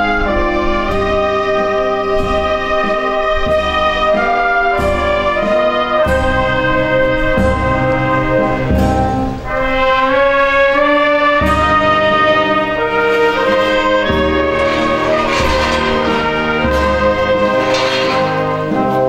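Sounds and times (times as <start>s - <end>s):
wind band playing slow march: 0.0s - 19.0s.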